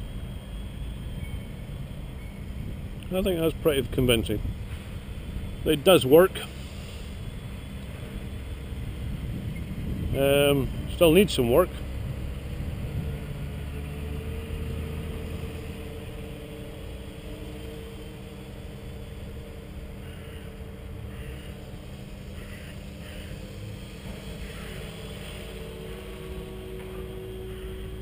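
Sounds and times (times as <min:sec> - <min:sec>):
drone propellers humming: 0:00.0 - 0:28.0.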